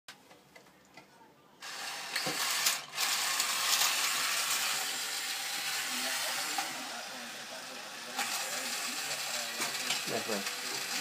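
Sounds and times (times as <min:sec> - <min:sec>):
toy gears clicking and whirring: 0:01.6 - 0:11.0.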